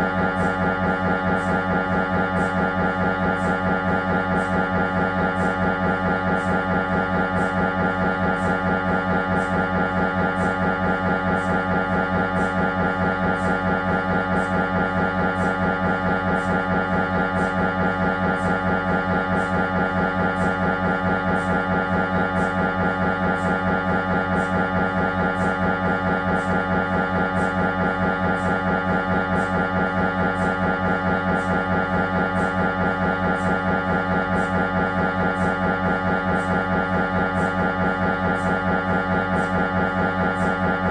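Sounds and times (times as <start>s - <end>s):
mri scanner pulsing buzz: 0.0s - 40.9s.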